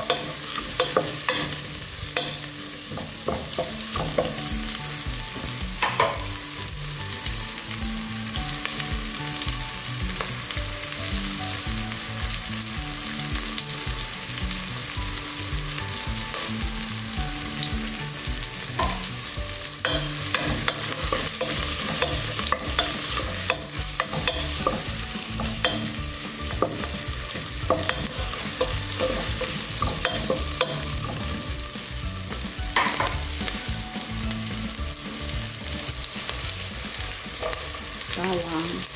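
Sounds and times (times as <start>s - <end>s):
onions sizzling in hot oil: 0.0s - 38.9s.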